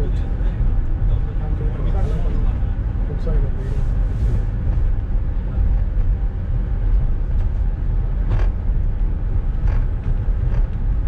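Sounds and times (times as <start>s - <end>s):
monorail low rumble: 0.0s - 11.0s.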